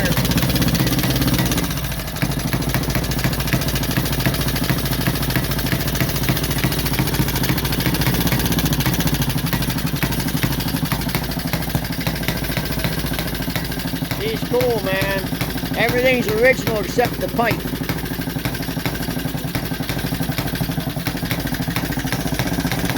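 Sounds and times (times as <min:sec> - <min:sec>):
motorcycle engine idling: 0:00.0 - 0:22.9.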